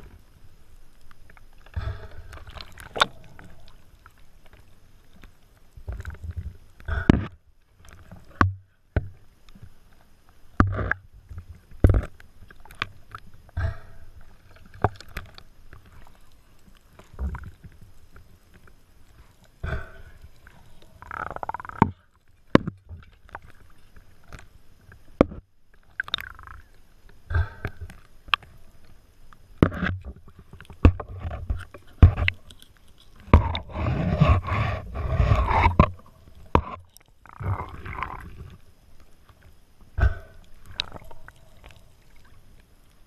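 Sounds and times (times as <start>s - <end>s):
underwater sharp clicks and knocks: 1.0s - 42.6s.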